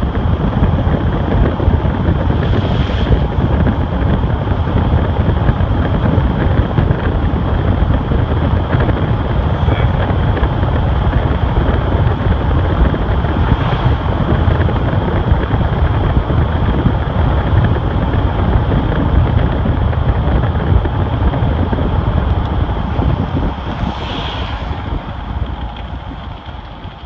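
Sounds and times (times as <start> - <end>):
truck engine and road noise: 0.0 - 27.0
wind buffeting microphone: 0.0 - 27.0.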